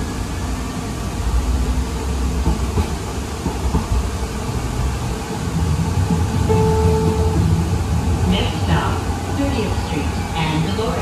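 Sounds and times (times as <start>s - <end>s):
light rail car rumbling: 0.0s - 11.0s.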